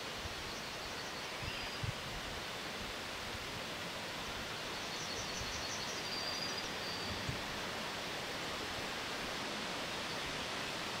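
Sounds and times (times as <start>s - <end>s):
wind rustling through trees: 0.0s - 11.0s.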